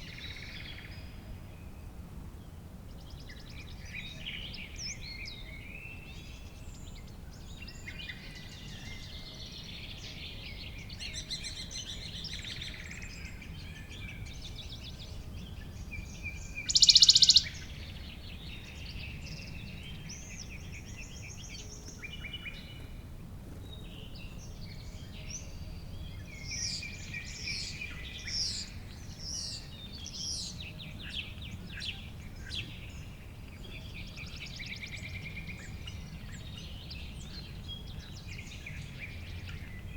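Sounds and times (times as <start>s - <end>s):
birds singing and calling: 2.9s - 39.9s.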